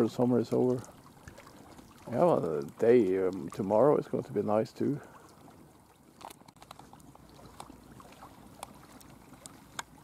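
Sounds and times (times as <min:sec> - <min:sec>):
faint outdoor background: 0:00.0 - 0:10.0.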